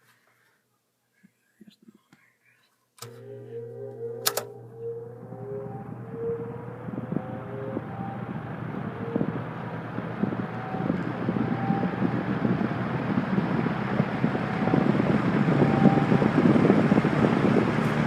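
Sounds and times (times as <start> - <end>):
box fan starting up: 3.0 - 18.0.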